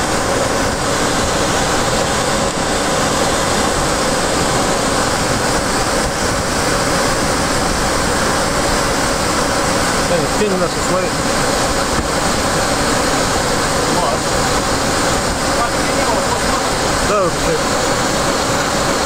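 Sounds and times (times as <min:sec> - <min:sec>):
airflow and engine rushing: 0:00.0 - 0:19.0.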